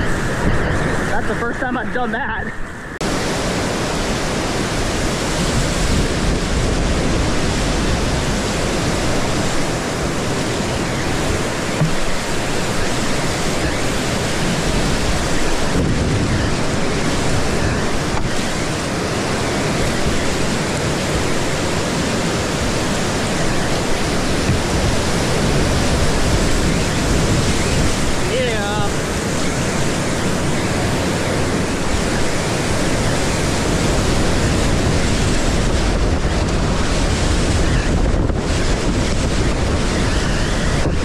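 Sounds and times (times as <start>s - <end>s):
whitewater rushing: 0.0s - 41.0s.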